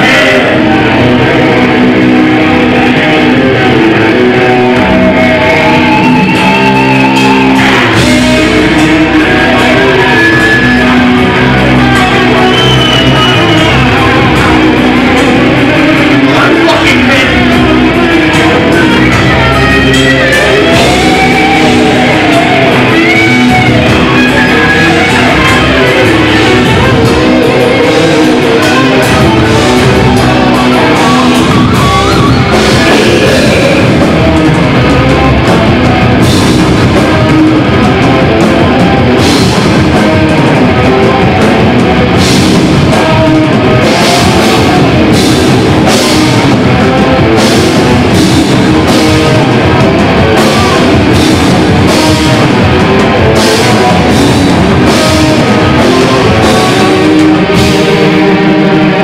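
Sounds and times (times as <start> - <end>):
distorted electric guitars: 0.0 - 59.0
drum kit: 0.0 - 59.0.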